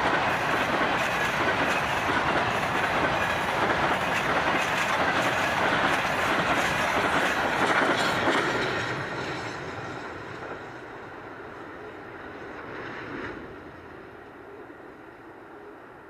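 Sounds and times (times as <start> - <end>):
freight train rolling on rails: 0.0 - 16.0.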